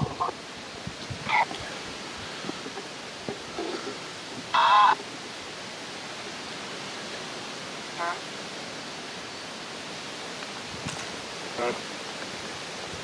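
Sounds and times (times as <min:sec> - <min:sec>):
wind hiss on microphone: 0:00.0 - 0:13.0.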